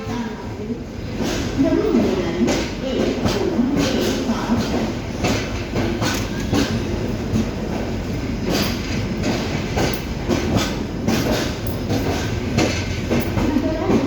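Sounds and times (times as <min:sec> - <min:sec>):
train rumble: 0:00.0 - 0:14.0
train wheels clattering: 0:01.0 - 0:14.0.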